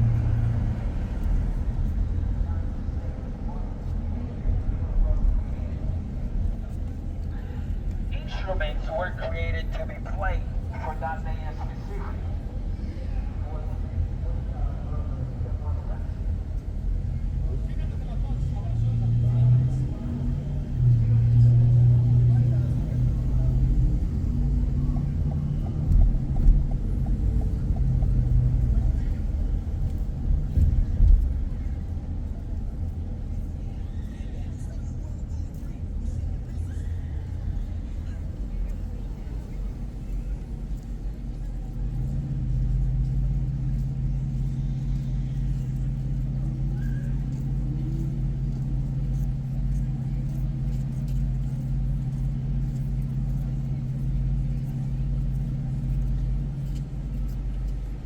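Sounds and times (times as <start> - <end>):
car engine rumble: 0.0 - 58.0
road noise: 0.0 - 58.0.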